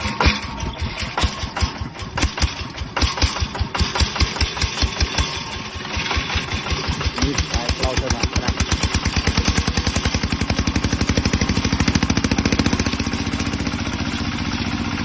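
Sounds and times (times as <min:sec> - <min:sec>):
diesel tractor engine chugging: 0:00.0 - 0:15.0.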